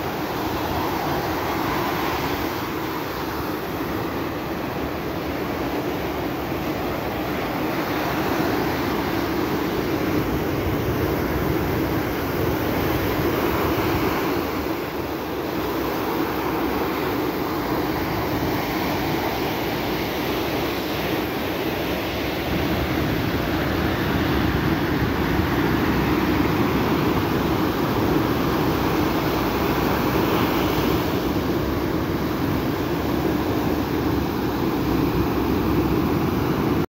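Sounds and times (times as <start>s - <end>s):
ocean surf breaking on beach: 0.0s - 36.9s.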